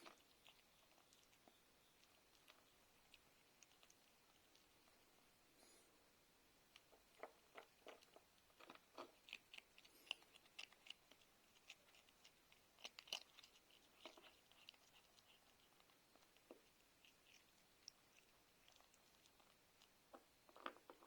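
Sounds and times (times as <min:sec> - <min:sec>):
cat crunching food: 0:00.0 - 0:05.4, 0:06.6 - 0:21.0.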